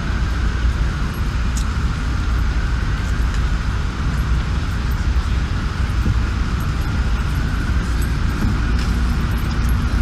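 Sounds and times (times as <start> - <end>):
low traffic rumble: 0.0 - 10.0.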